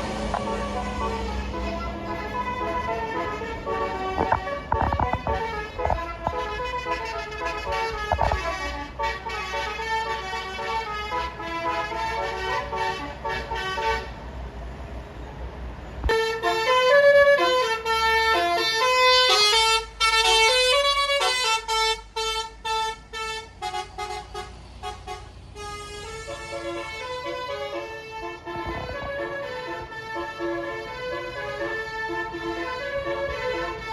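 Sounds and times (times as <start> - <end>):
bus musical horn melody: 0.0 - 14.2, 16.1 - 33.9.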